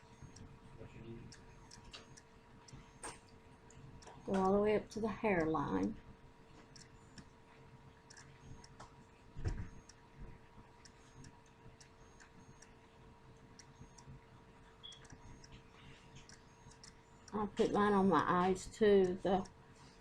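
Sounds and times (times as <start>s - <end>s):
faint light ticking: 0.0s - 0.6s, 1.2s - 6.0s, 6.6s - 7.3s, 8.0s - 12.8s, 13.4s - 19.6s
steady low hum: 0.0s - 20.0s.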